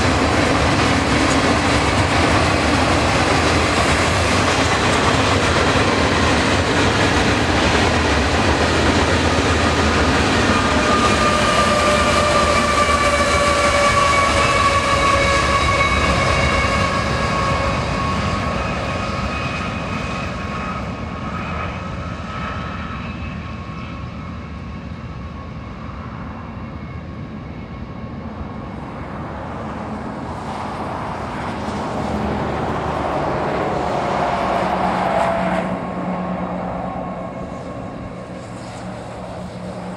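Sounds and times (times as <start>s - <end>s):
freight train rolling roar: 0.0s - 39.9s
locomotive approaching: 0.0s - 39.9s.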